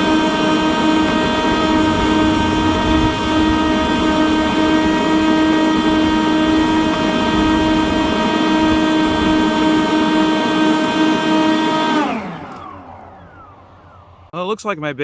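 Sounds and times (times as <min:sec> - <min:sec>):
leaf blowers running: 0:00.0 - 0:14.3.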